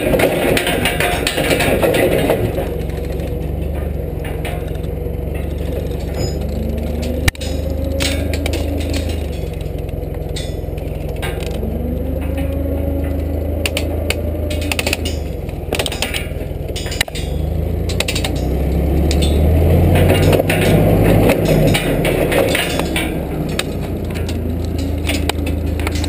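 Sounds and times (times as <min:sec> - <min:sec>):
clicks and knocks: 0:00.0 - 0:26.0
forklift engine running: 0:00.0 - 0:26.0.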